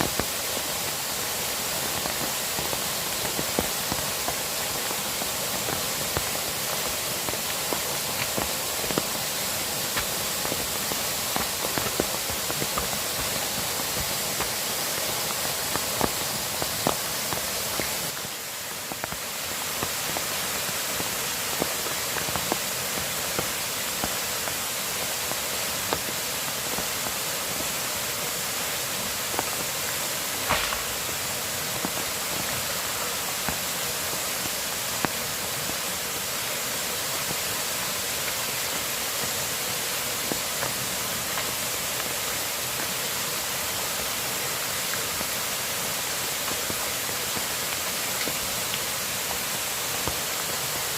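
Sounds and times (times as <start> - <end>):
rushing water: 0.0 - 50.9.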